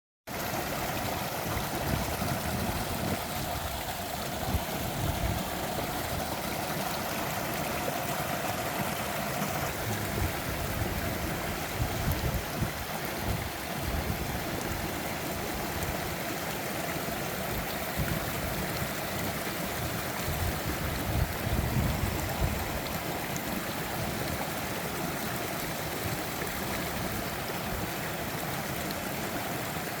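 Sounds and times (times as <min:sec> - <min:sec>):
waterfall rushing and splashing: 0:00.3 - 0:30.0.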